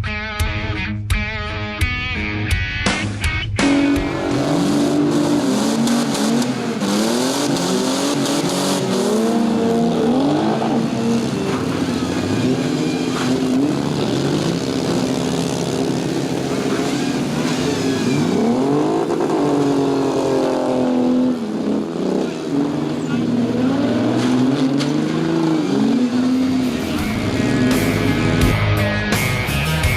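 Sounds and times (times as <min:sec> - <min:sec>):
car engines revving: 0:03.6 - 0:29.9
steady engine hum: 0:03.6 - 0:29.9.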